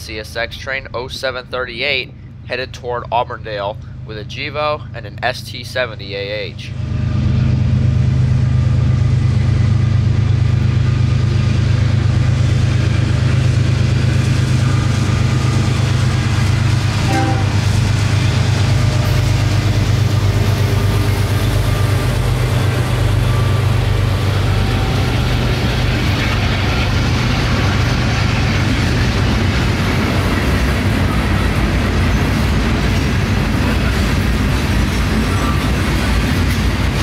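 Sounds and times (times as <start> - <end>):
diesel locomotive drone: 0.0 - 37.0
freight train wheels on rails: 0.0 - 37.0.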